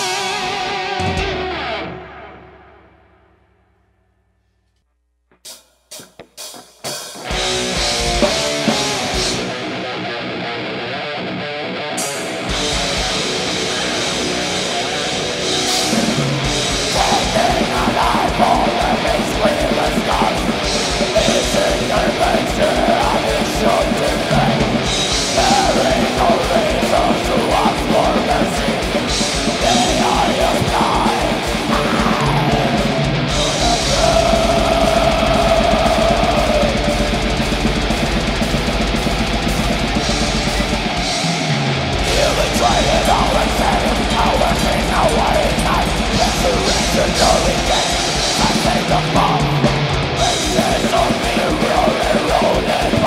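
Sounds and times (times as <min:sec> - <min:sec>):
distorted electric guitars: 0:00.0 - 0:03.6, 0:05.3 - 0:53.0.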